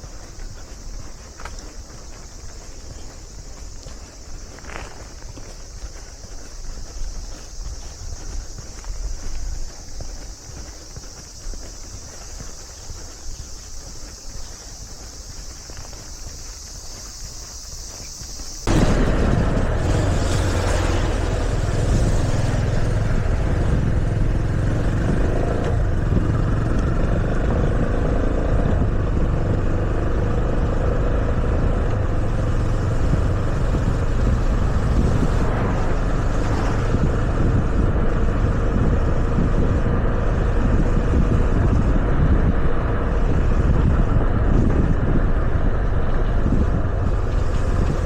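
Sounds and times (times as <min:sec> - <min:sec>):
motorcycle engine and road noise: 0:00.0 - 0:48.0
wind rushing over microphone: 0:00.0 - 0:48.0.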